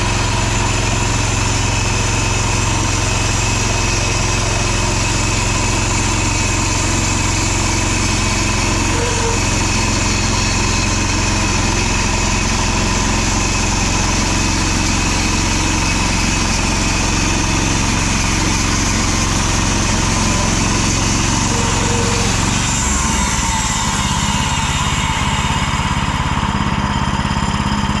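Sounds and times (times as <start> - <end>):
sawmill engine running: 0.0 - 28.0
band blade cutting log: 2.4 - 25.3.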